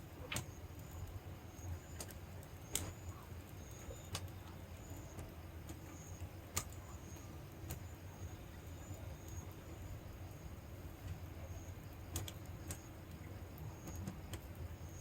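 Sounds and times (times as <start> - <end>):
wood fire popping: 0.1 - 15.0.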